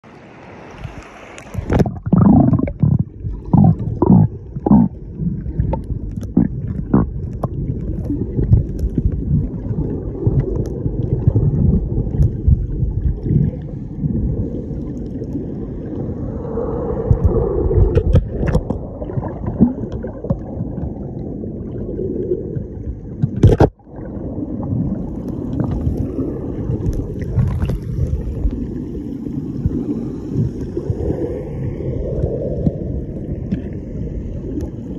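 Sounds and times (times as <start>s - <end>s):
sea water sloshing: 0.1s - 34.9s.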